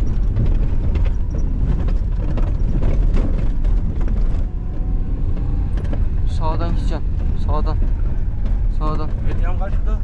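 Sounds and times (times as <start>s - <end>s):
knocks and rattles from car body: 0.0s - 10.0s
vehicle engine and road rumble: 0.0s - 10.0s.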